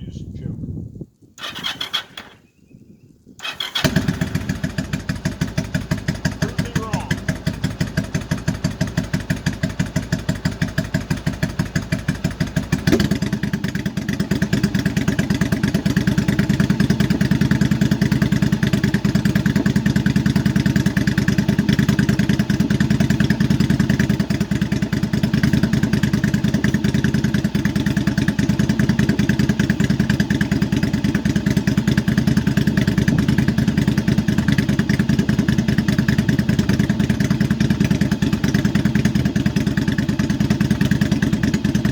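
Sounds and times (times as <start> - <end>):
motorcycle engine idling: 3.4 - 41.9.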